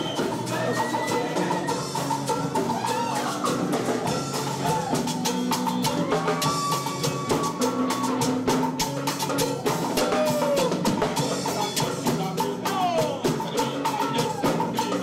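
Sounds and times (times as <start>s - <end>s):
drum kit beat: 0.0s - 15.0s
live band playing ska-reggae: 0.0s - 15.0s.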